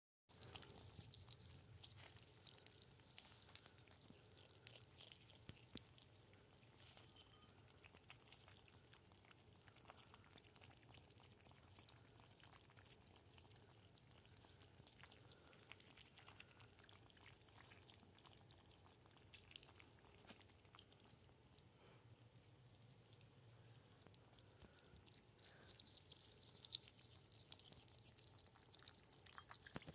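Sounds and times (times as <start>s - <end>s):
ferrets lapping water: 0.3s - 6.9s, 7.8s - 29.9s
low steady hum: 0.3s - 29.9s.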